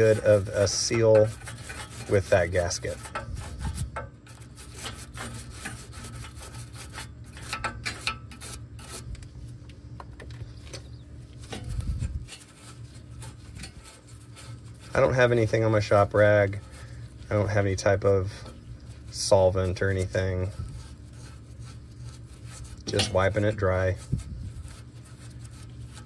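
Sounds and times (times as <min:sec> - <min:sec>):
brush scrubbing metal: 0:00.0 - 0:26.0.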